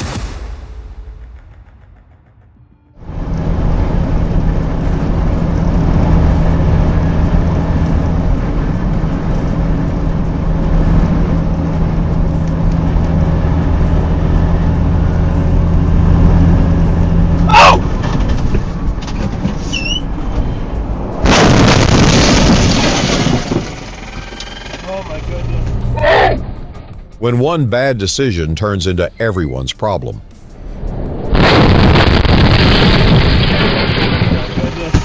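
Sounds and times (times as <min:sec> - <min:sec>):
truck engine humming: 0:03.0 - 0:35.0.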